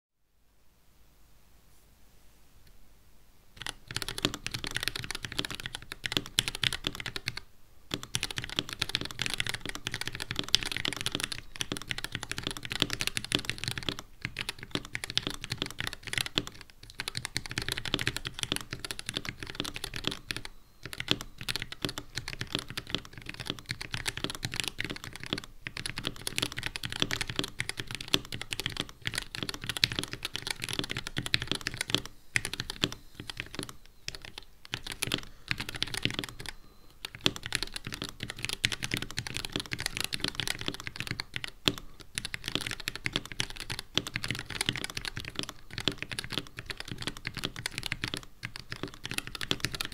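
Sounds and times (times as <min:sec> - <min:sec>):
mechanical keyboard typing: 0:03.6 - 0:49.9.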